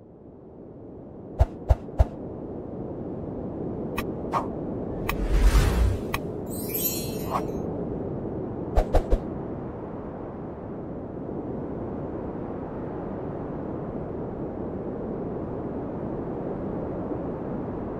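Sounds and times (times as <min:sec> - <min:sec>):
low snowstorm wind: 0:00.0 - 0:17.9.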